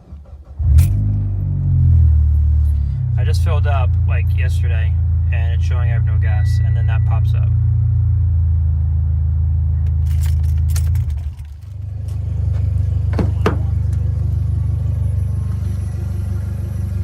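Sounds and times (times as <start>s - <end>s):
car engine hum from inside: 0.0s - 17.0s.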